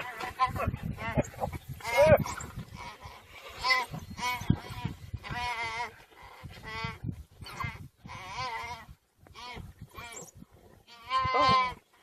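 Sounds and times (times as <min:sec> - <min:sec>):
antelope bleating in distress: 0:00.0 - 0:12.0.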